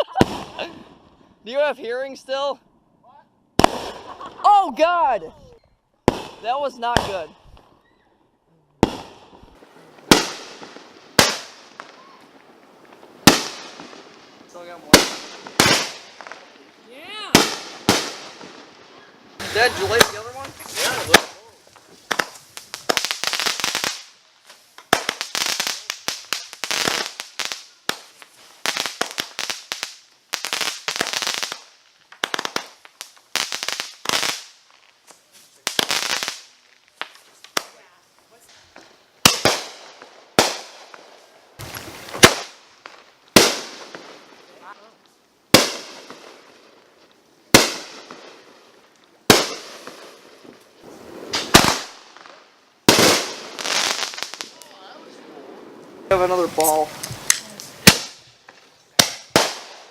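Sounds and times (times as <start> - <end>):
firework crackling pops: 0.0 - 1.2, 3.6 - 4.4, 6.0 - 8.0, 8.8 - 59.9.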